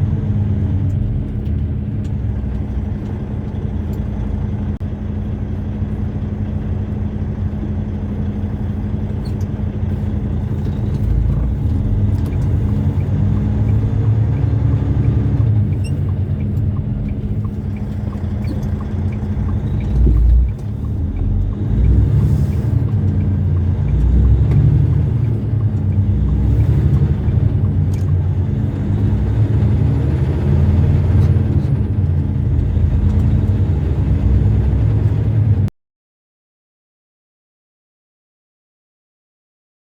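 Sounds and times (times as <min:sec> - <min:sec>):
truck engine drone: 0:00.0 - 0:35.7.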